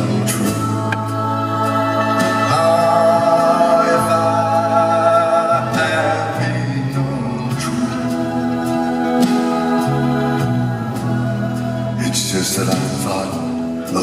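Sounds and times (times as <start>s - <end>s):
live band playing: 0.0s - 14.0s
person singing: 0.0s - 14.0s.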